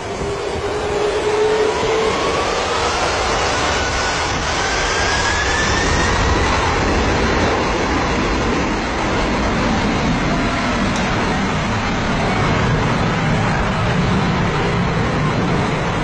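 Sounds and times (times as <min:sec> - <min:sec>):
aeroplane engines roaring overhead: 0:00.0 - 0:16.0
rising engine whine: 0:00.0 - 0:16.0.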